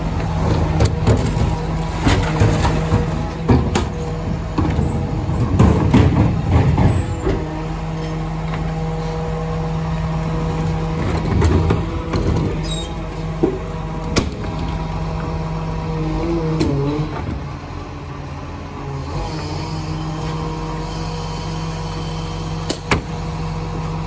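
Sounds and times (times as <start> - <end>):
garbage truck running: 0.0 - 24.0.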